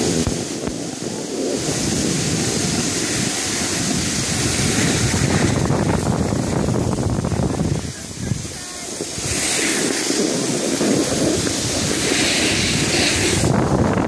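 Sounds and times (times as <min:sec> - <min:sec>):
skis sliding on snow: 0:00.0 - 0:14.0
wind buffeting microphone: 0:00.0 - 0:14.0.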